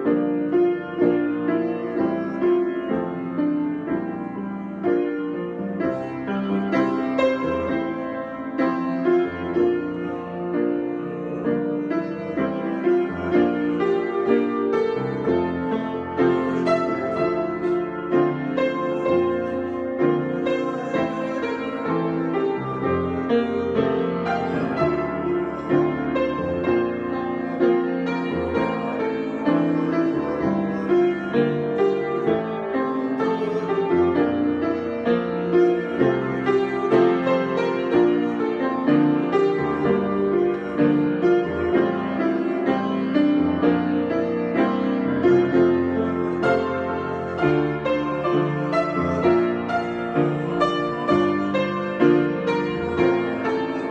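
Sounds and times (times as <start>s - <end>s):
piano improvisation: 0.0s - 53.9s.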